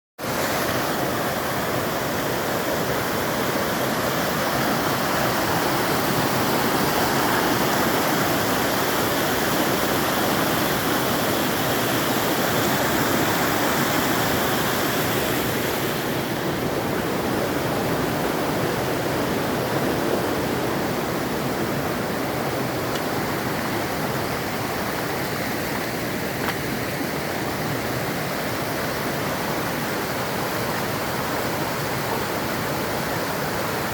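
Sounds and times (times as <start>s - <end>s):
stream water rushing: 0.2s - 33.9s.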